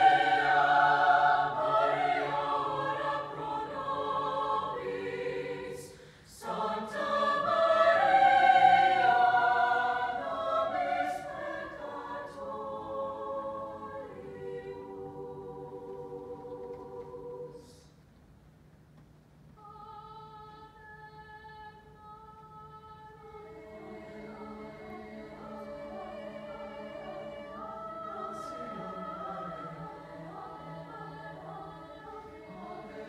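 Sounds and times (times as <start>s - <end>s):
mixed choir singing chords: 0.0s - 17.9s, 22.9s - 33.0s.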